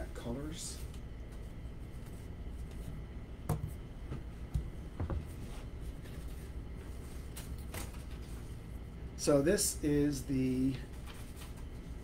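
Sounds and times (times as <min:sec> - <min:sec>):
low steady room hum: 0:00.0 - 0:12.0.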